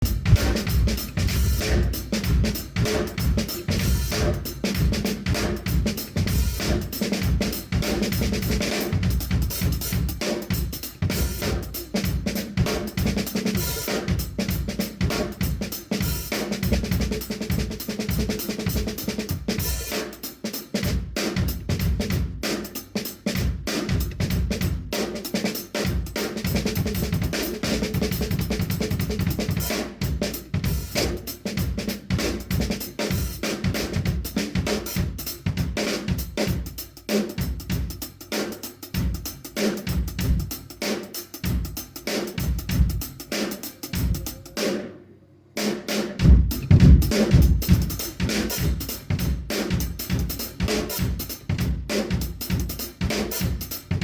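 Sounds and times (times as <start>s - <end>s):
drum kit playing a groove: 0.0s - 44.9s, 45.6s - 54.0s.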